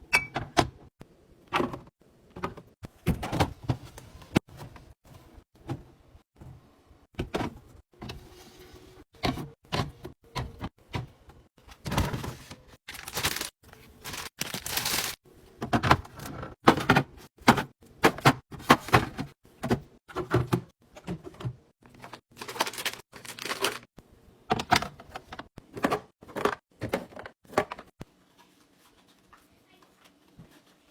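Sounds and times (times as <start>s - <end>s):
groceries clunking on fridge shelves: 1.5s - 8.4s, 9.2s - 23.9s, 24.5s - 28.0s.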